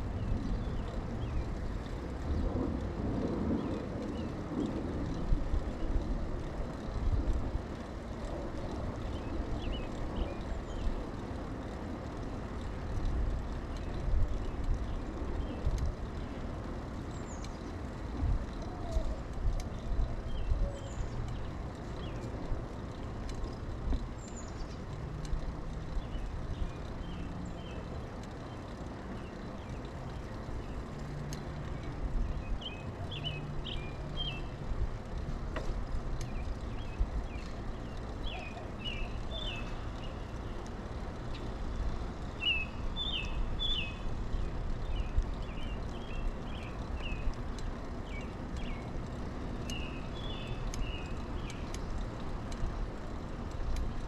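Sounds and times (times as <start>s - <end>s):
bike tyres rumbling: 0.0s - 54.0s
birds chirping: 7.8s - 54.0s.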